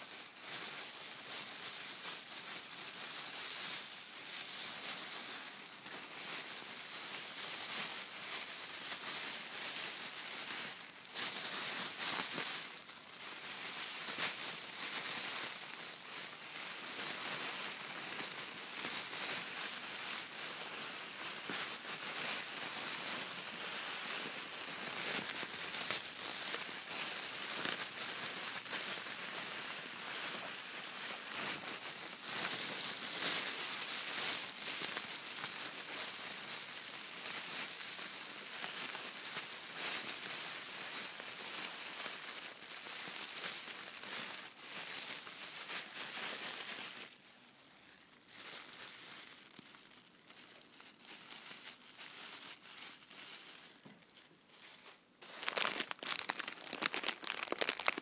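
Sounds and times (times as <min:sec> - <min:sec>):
packaging crinkling: 0:00.4 - 0:58.0.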